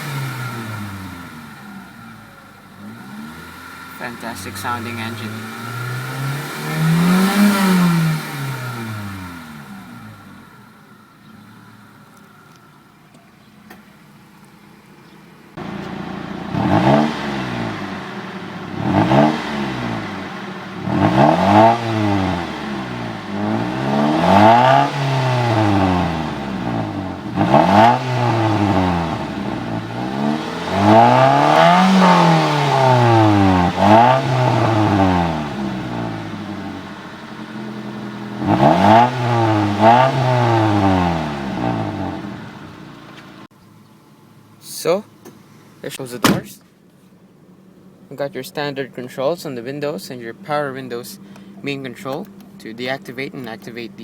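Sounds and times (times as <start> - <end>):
car engine revving: 0.0 - 43.5, 47.4 - 54.0.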